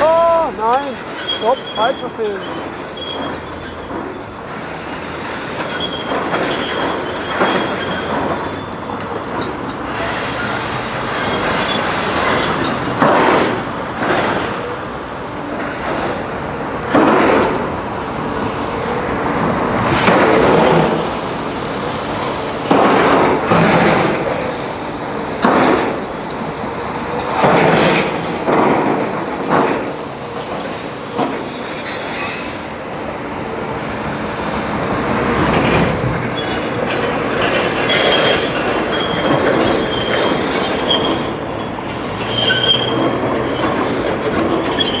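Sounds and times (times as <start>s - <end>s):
excavator engines running: 0.0s - 45.0s.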